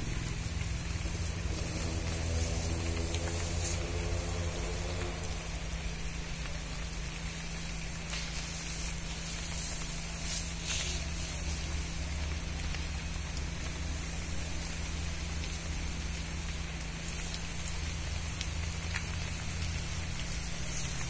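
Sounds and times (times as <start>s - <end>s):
spray hissing onto palm fronds: 0.0s - 21.0s
steady low hum: 0.0s - 21.0s.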